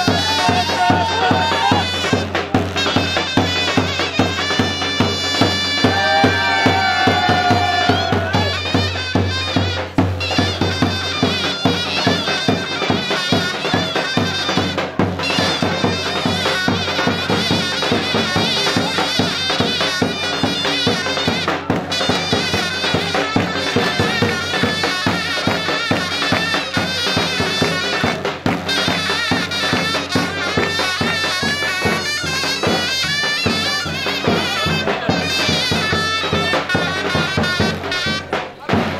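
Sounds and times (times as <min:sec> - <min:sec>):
shrill reed wind instrument melody: 0:00.0 - 0:38.6
steady drum beats: 0:00.0 - 0:38.9.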